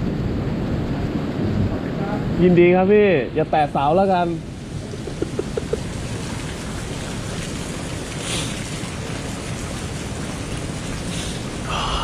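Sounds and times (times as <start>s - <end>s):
sea surf on shore: 0.0s - 12.0s.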